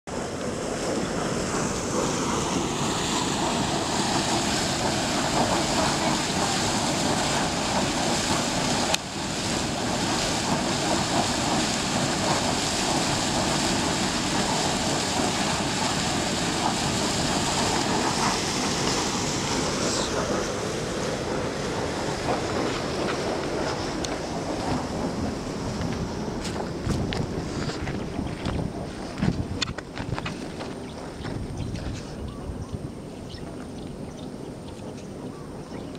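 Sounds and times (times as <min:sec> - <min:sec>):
steam venting hiss: 0:00.1 - 0:32.2.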